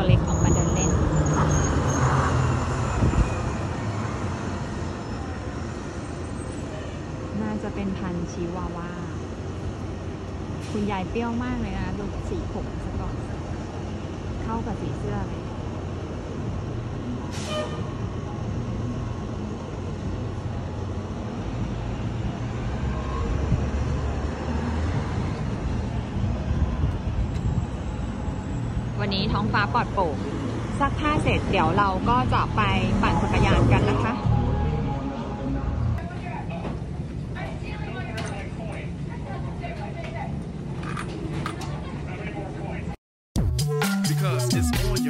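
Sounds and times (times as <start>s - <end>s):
traffic hum: 0.0s - 43.0s.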